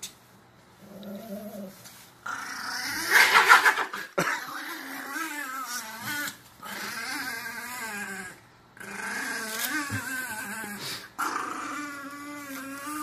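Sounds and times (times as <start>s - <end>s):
small dog growling and snarling: 0.8s - 13.0s.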